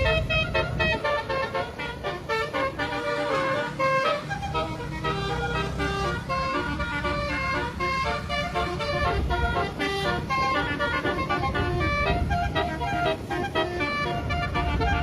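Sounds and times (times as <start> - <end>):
low engine rumble: 0.0 - 15.0
multi-tone air horn melody: 0.0 - 15.0.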